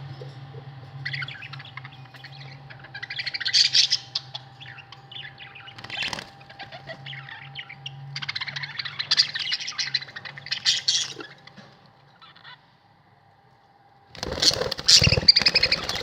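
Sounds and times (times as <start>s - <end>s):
budgerigars chattering: 0.0s - 11.6s, 14.2s - 16.0s
faint steady hum: 0.0s - 16.0s.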